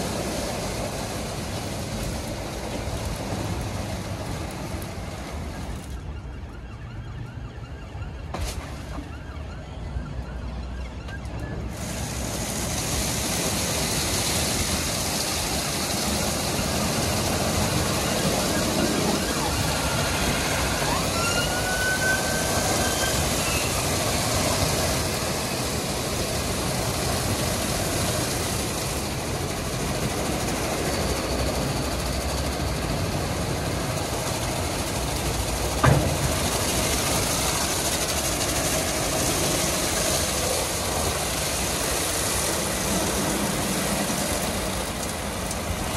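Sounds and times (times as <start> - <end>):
car wash brushes spinning: 0.0 - 5.9, 11.7 - 45.9.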